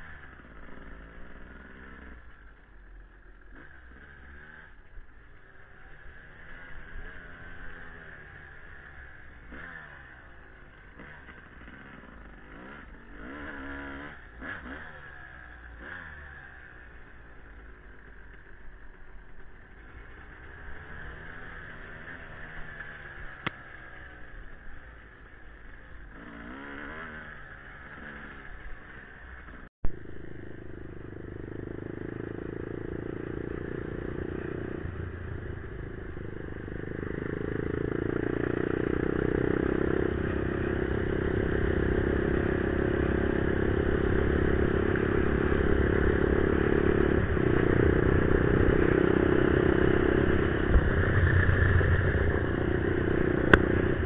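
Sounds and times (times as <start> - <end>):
quad engine under throttle: 0.0 - 54.0.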